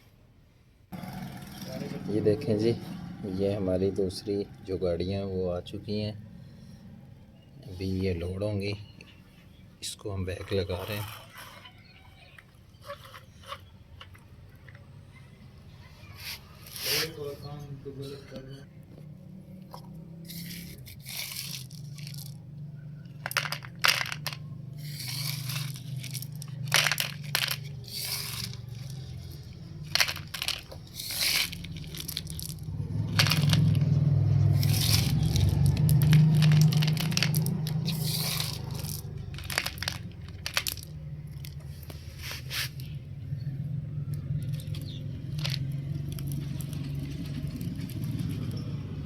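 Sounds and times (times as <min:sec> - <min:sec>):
gravel crunching and scraping: 0:01.0 - 0:14.9, 0:19.6 - 0:49.0.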